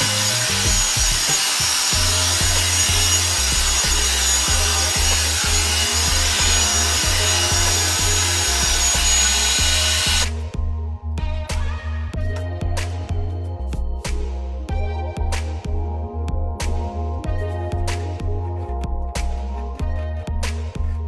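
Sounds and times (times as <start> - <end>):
background music with bass: 0.0 - 21.0.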